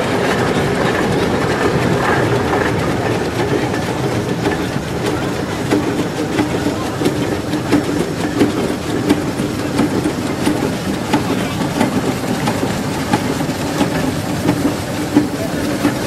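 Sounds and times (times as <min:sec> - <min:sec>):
steam engine exhaust beats: 0:00.0 - 0:16.0.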